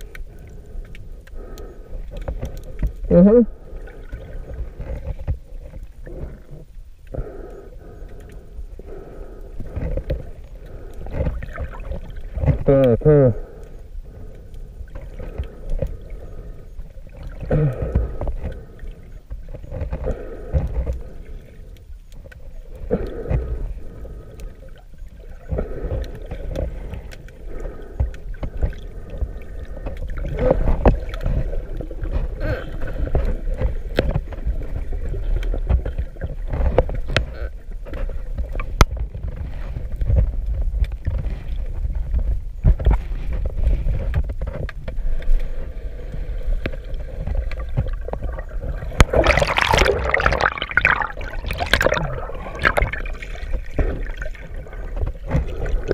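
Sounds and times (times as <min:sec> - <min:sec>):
muffled underwater sloshing: 0:00.0 - 0:55.9.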